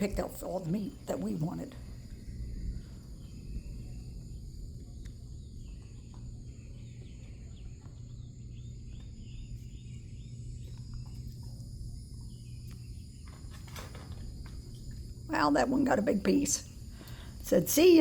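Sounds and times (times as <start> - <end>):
crickets chirping: 0.0 - 18.0
low hum: 0.0 - 18.0.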